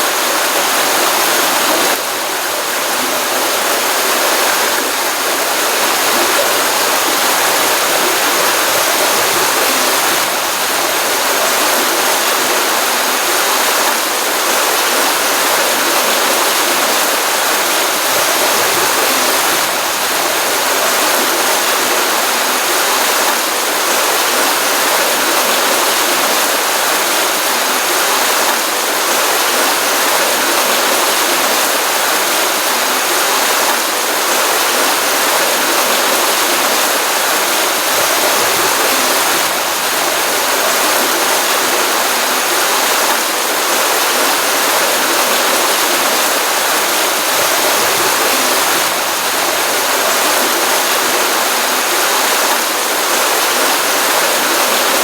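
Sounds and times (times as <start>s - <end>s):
stream water running and splashing: 0.0s - 55.0s.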